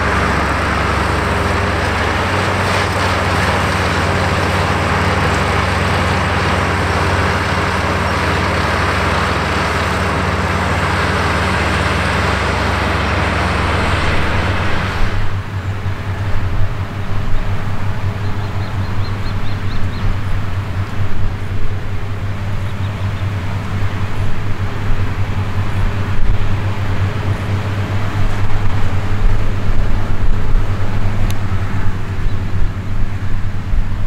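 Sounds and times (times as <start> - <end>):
hiss of hay machinery: 0.0 - 34.0
tractor diesel engines droning: 0.0 - 34.0.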